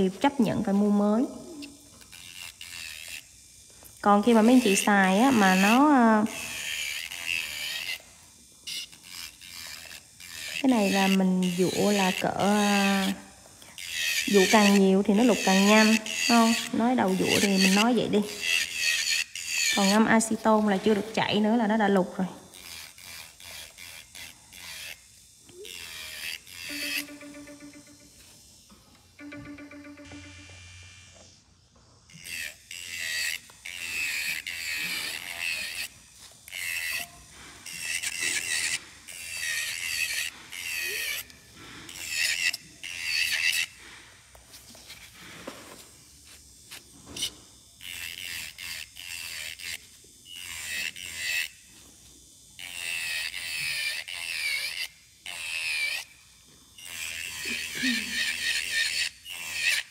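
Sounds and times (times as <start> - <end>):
electric nail drill whining: 0.0 - 59.9.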